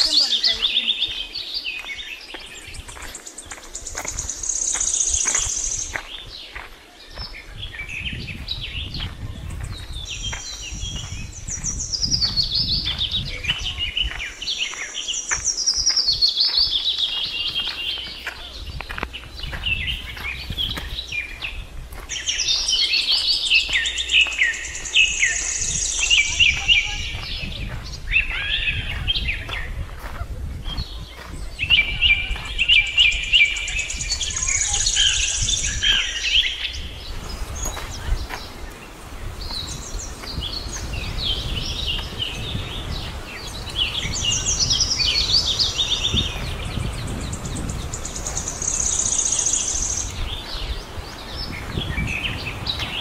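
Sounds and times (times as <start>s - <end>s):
birds singing and calling: 0.0s - 53.0s.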